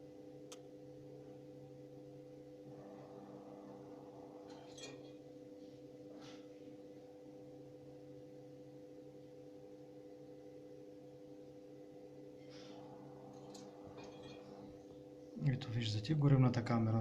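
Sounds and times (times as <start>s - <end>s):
exhaust fan hum: 0.0s - 17.0s.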